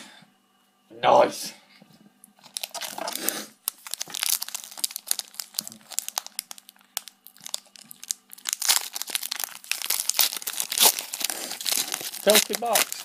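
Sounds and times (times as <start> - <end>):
foil pack tearing: 2.4 - 13.0
foil wrapper crinkling: 2.4 - 13.0.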